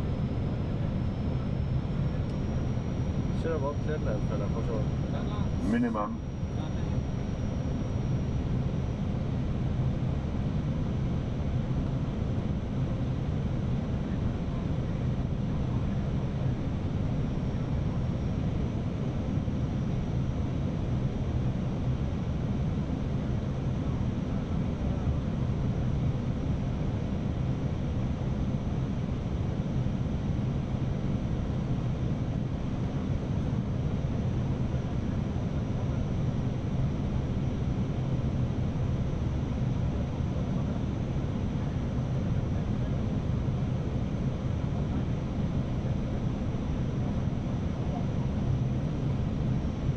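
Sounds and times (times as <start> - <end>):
aircraft engine noise: 0.0 - 49.9
faint high whine: 0.0 - 49.9.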